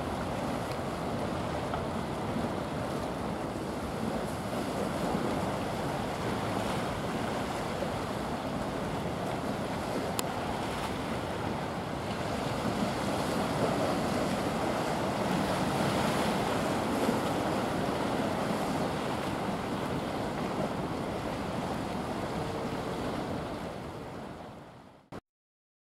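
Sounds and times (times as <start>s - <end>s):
sea waves: 0.0s - 25.1s.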